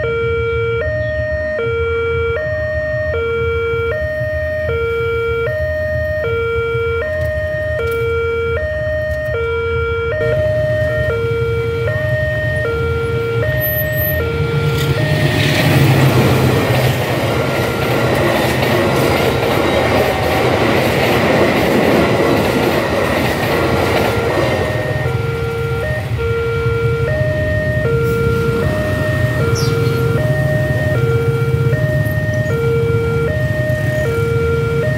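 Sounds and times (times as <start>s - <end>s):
level crossing two-tone alarm: 0.0s - 34.9s
passing train rumble: 0.0s - 34.9s.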